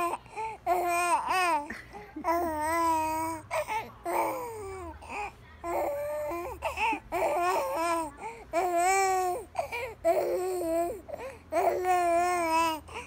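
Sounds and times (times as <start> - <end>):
baby cooing and babbling: 0.0 - 13.0.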